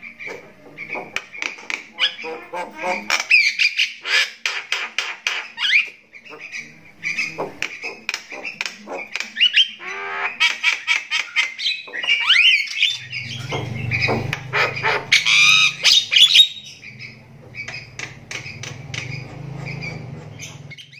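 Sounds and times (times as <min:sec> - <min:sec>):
myna bird calling: 0:00.0 - 0:20.9.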